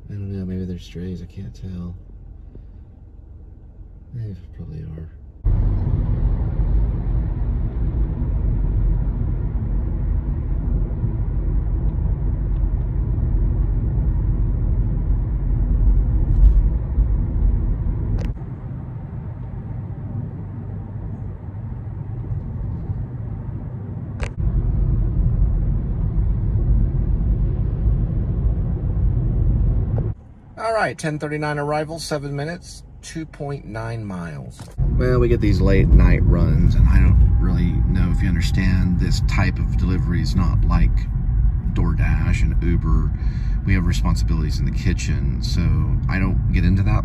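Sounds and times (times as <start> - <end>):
car cabin road rumble: 0.0 - 47.0.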